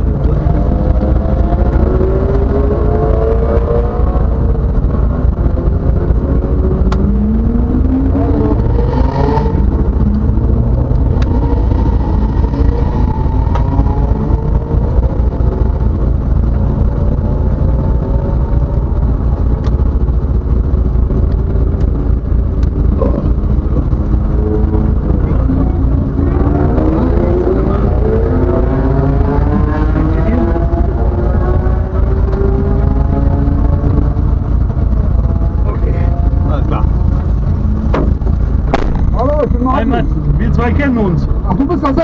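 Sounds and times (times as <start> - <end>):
race car engine rumbling: 0.0 - 42.0.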